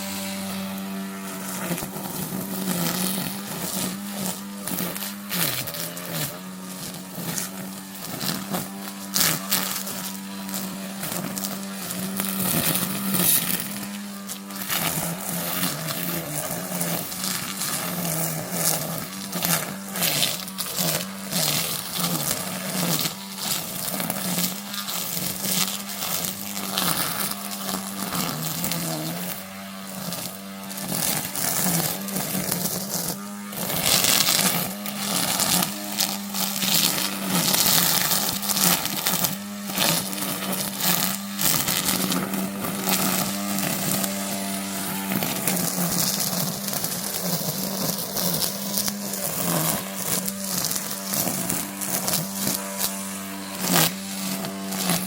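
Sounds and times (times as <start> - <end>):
string trimmer motor buzzing: 0.0 - 55.0
trimmer cutting grass: 0.0 - 55.0.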